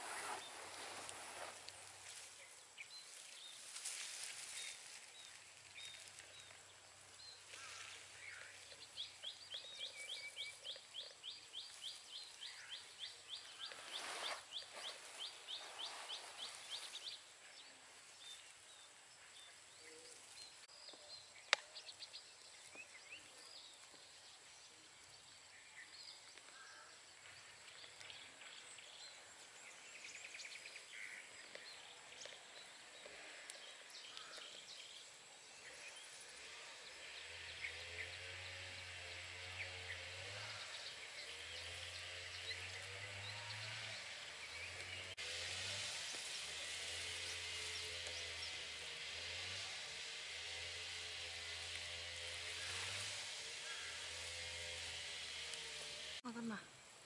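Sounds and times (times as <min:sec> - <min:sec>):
birds chirping: 0:00.0 - 0:56.7.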